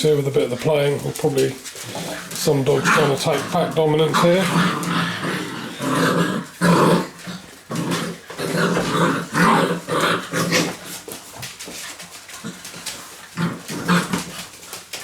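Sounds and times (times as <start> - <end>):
puppies growling in play: 1.0 - 15.0.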